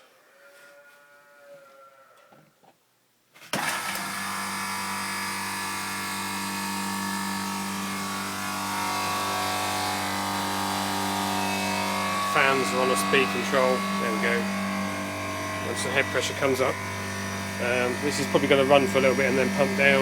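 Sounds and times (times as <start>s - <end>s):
refrigeration compressor humming: 3.6s - 20.0s
condenser fans running: 3.9s - 20.0s.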